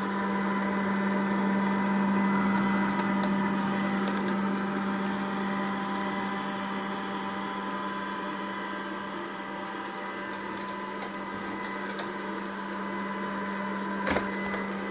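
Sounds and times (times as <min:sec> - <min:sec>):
robot vacuum motor hum: 0:00.0 - 0:14.9.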